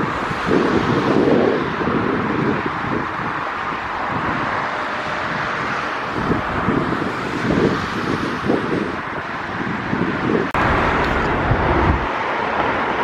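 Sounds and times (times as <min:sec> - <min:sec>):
outdoor rushing noise: 0:00.0 - 0:13.0
wind buffeting microphone: 0:00.0 - 0:13.0.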